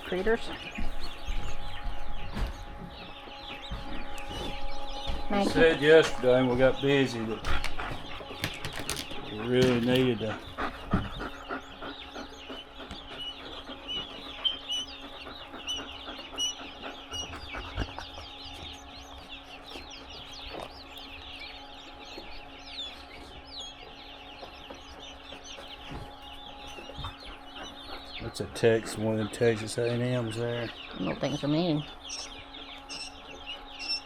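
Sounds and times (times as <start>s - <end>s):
chicks peeping: 0.0s - 34.0s
steady low hum: 0.0s - 34.0s.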